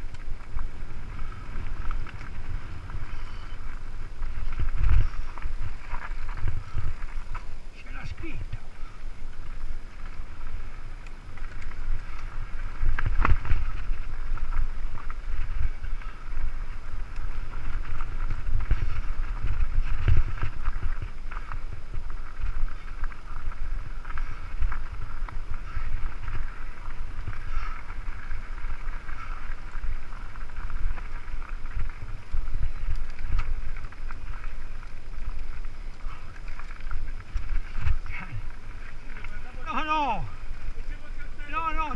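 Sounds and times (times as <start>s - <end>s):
bike rumbling and rattling on dirt: 0.0s - 41.9s.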